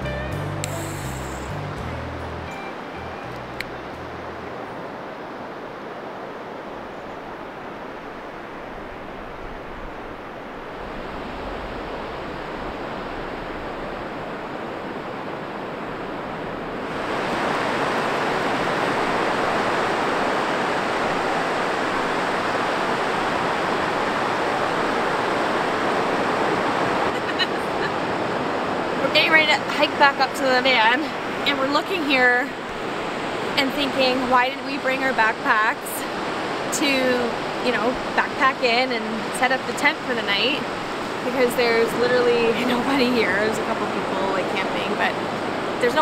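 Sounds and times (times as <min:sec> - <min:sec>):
waves breaking on beach: 0:03.7 - 0:46.0.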